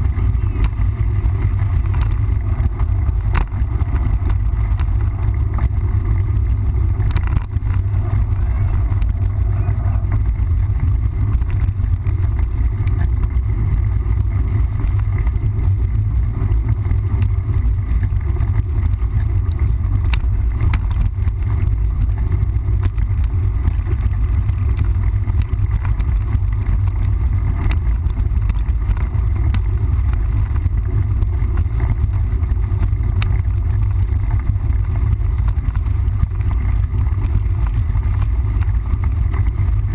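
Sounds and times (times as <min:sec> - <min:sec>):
bike clicks and rattles: 0:00.0 - 0:39.9
wind buffeting microphone: 0:00.0 - 0:39.9.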